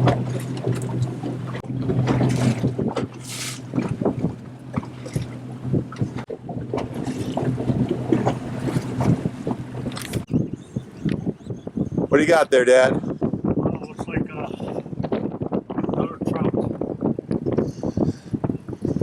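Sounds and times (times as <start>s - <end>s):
boat motor humming: 0.0s - 19.0s
water slapping against hull: 0.0s - 19.0s
wind on microphone: 0.0s - 19.0s.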